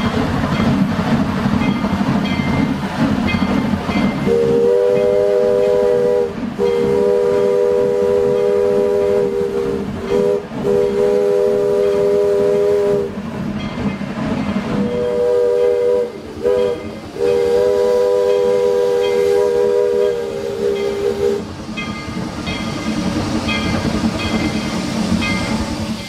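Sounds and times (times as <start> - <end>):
steam hissing: 0.0 - 26.0
steam locomotive chime whistle: 3.3 - 13.9, 14.7 - 26.0.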